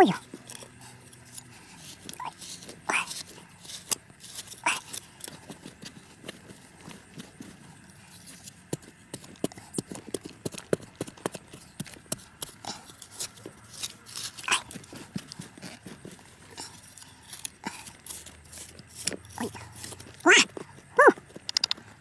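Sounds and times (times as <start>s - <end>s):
trowel scraping soil and gravel: 0.1s - 21.7s.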